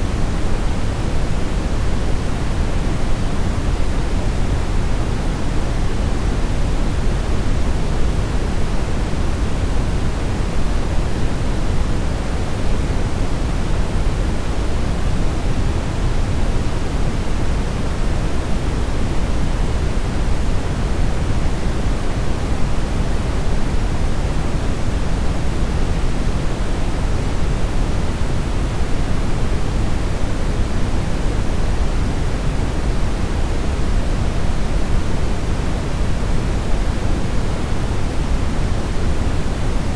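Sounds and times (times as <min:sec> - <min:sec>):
steady brown noise: 0:00.0 - 0:39.9.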